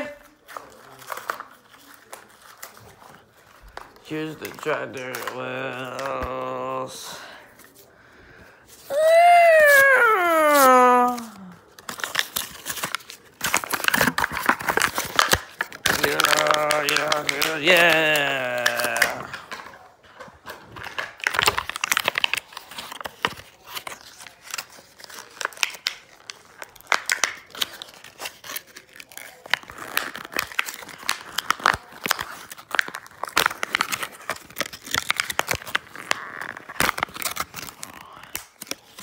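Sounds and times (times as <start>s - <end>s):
packaging crinkling and tearing: 0.0s - 7.9s, 8.7s - 39.0s.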